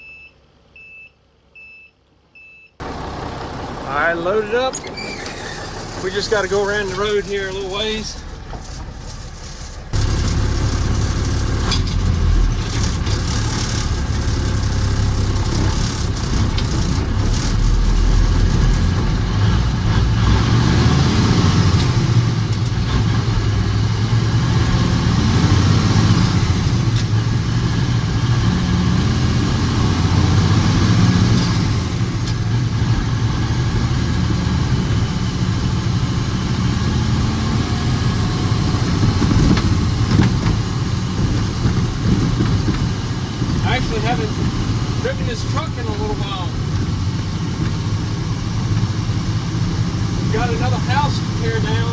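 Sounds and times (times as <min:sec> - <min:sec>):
diesel truck engine running: 0:02.2 - 0:51.9
road noise: 0:02.8 - 0:51.9.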